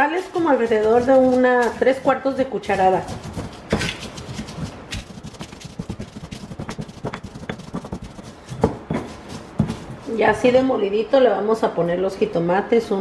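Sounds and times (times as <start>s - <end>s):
stone pestle grinding and scraping: 0.1s - 10.6s.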